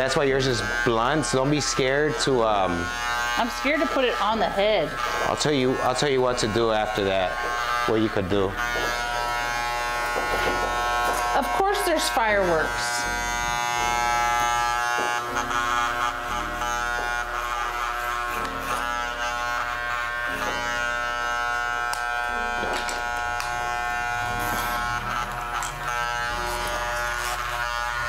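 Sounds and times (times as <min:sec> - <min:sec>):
hair clippers buzzing: 0:00.0 - 0:28.0.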